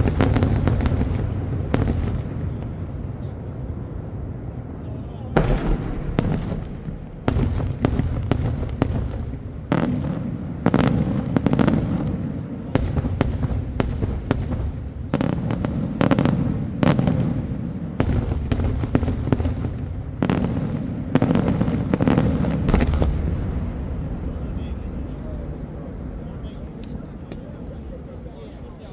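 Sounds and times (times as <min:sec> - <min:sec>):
low rolling echo: 0:00.0 - 0:28.9.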